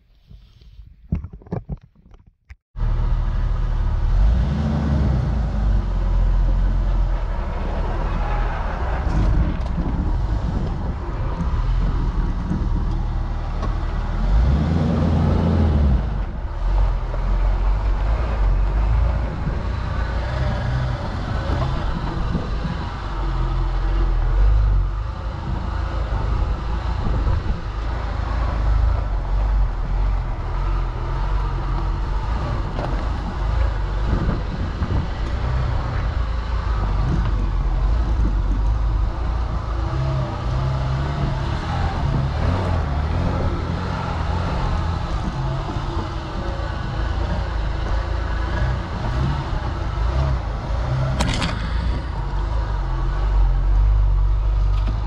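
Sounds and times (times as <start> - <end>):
tyres rumbling on dirt track: 2.8 - 55.0
vehicle engine running: 2.8 - 55.0.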